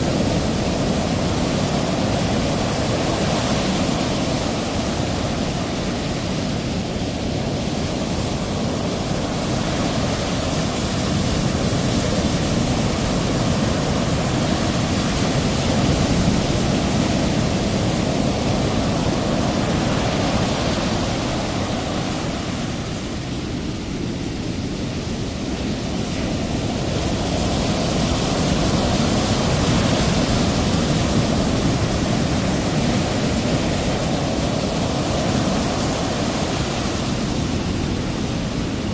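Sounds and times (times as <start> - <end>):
ocean surf: 0.0 - 38.9
wind: 0.0 - 38.9.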